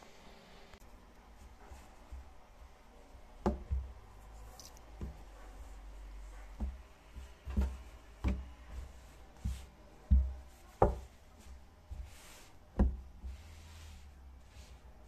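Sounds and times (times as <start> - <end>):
soft noises: 0.0 - 15.0.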